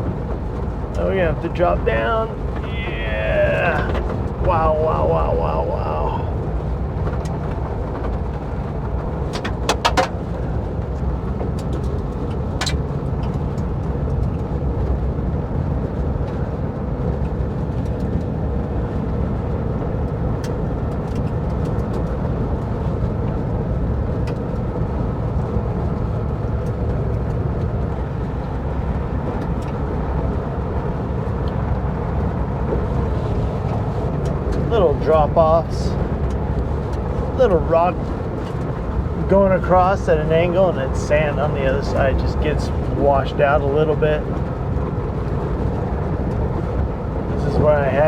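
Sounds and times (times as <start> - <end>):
engine drone with road noise: 0.0 - 48.0
knocks and rattles of bouncing vehicle: 0.0 - 48.0.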